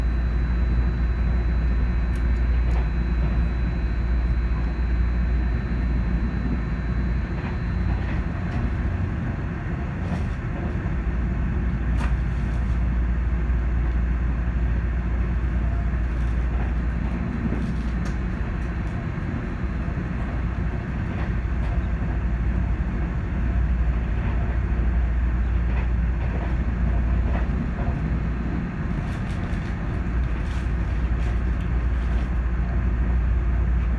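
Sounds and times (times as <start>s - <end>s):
train rumble from inside carriage: 0.0s - 33.9s.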